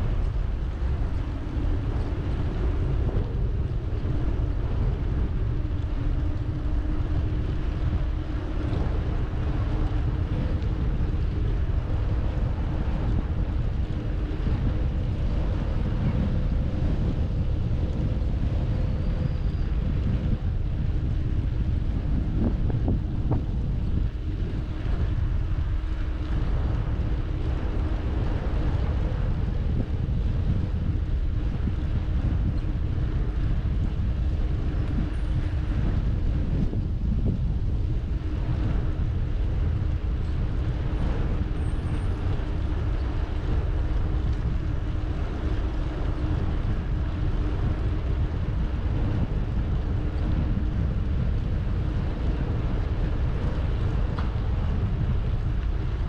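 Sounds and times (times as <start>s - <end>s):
faint steady hum: 0.0s - 56.0s
wind buffeting microphone: 0.0s - 56.0s.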